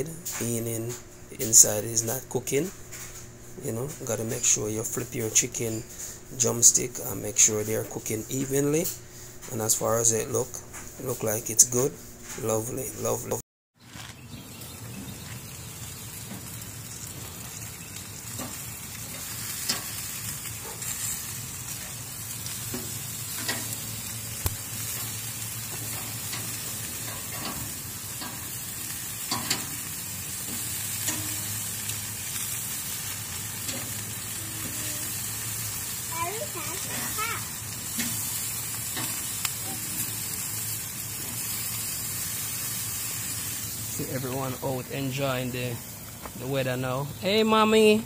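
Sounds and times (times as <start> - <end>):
meat sizzling on a grill: 0.0 - 13.2, 14.2 - 48.0.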